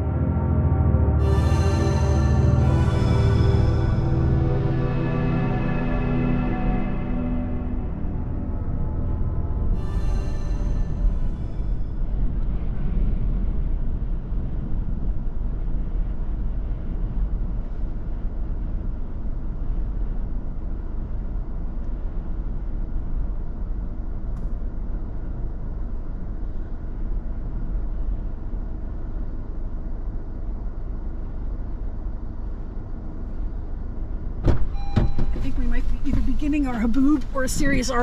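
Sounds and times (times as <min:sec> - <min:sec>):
gusty wind buffeting: 0:01.2 - 0:34.4.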